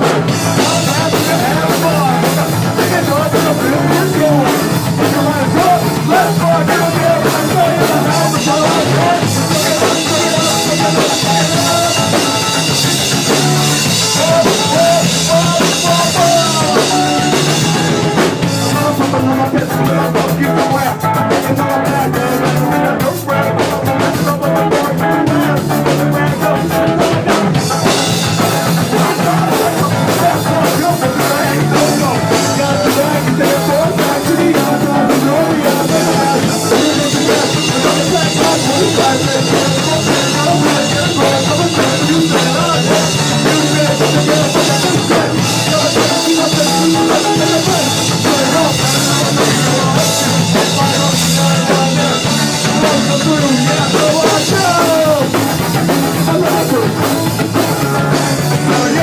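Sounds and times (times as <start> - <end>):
distorted electric guitar: 0.0 - 59.0
drum kit: 0.0 - 59.0.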